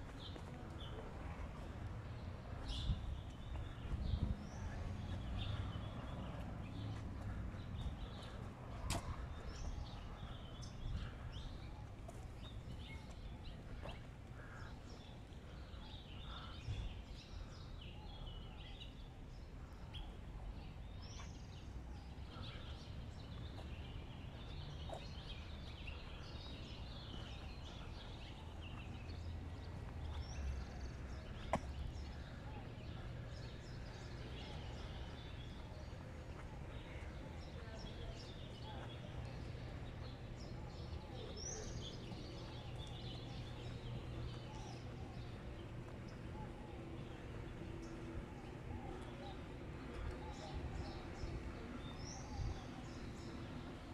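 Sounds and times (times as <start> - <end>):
birds chirping: 0.0 - 53.9
low city rumble: 0.0 - 53.9.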